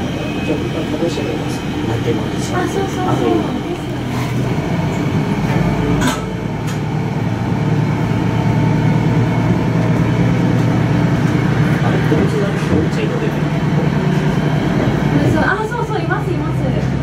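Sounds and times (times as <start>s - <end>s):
diesel railcar engine drone: 0.0s - 17.0s.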